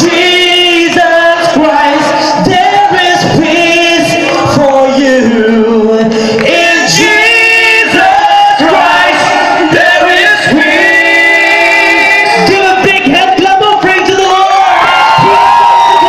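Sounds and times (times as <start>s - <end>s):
live worship music: 0.0s - 16.0s
man singing: 0.0s - 16.0s.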